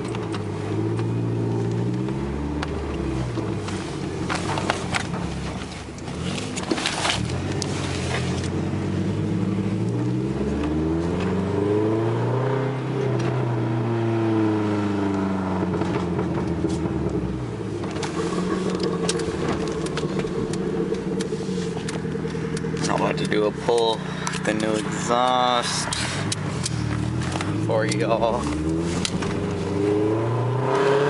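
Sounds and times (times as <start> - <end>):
vehicle engine accelerating: 0.0 - 31.0.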